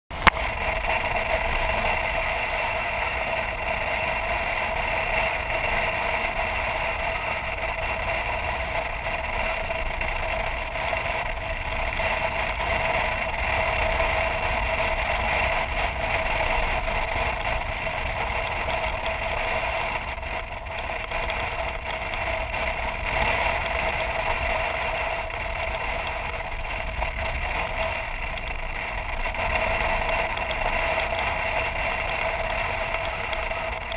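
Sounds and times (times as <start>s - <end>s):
motorcycle engine cruising: 0.1s - 33.9s
road noise: 0.1s - 33.9s
wind: 0.1s - 33.9s.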